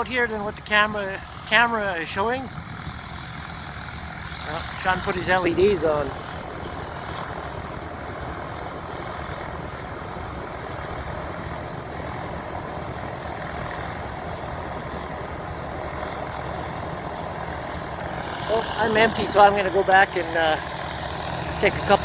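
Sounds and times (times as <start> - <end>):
combine harvester running: 0.0 - 22.0
unloading auger running: 0.0 - 22.0.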